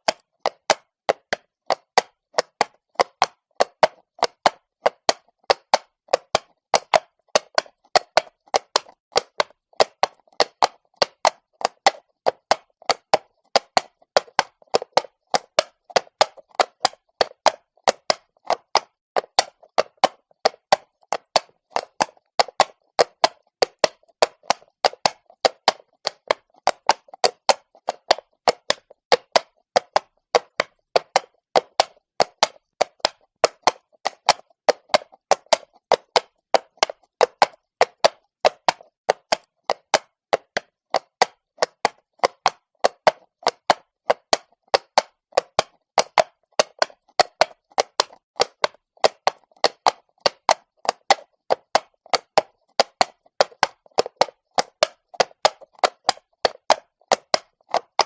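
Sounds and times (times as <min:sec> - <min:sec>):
hooves on cobblestones: 0:00.1 - 0:58.0.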